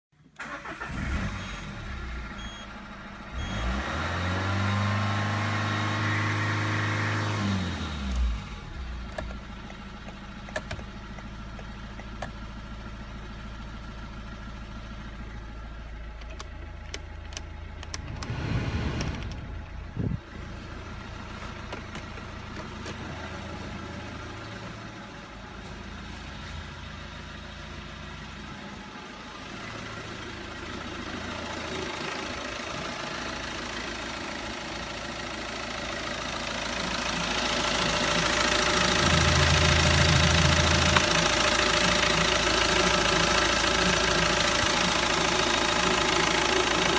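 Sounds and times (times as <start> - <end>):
diesel engine idling and revving: 0.3 - 46.9.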